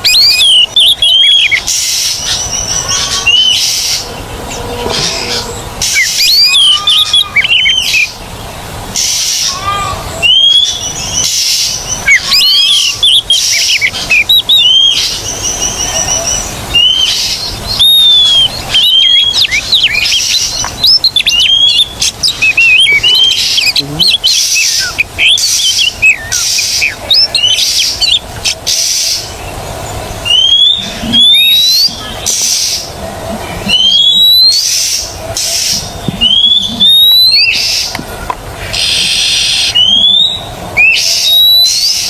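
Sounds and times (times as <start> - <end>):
magpie-robin singing: 0.0 - 4.2, 4.8 - 8.2, 9.0 - 38.0, 38.6 - 42.0.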